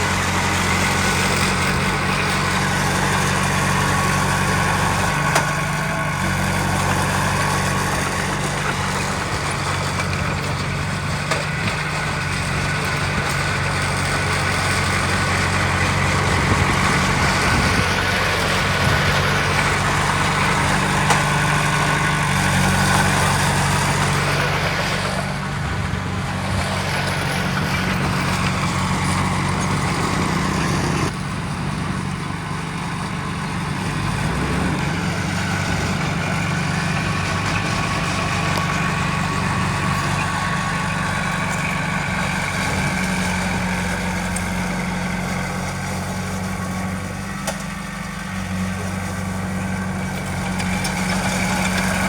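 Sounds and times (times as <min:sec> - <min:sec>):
diesel engine droning: 0:00.0 - 0:52.0.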